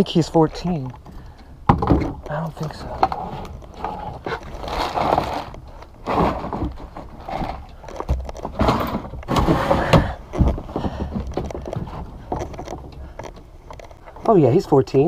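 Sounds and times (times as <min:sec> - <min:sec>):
fishing gear knocking and rattling: 0:00.5 - 0:14.6
heavy thuds: 0:00.6 - 0:14.2.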